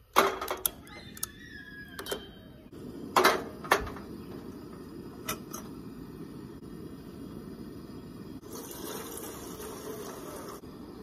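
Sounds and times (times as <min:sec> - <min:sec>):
gas stove burner rushing: 0:00.0 - 0:11.0.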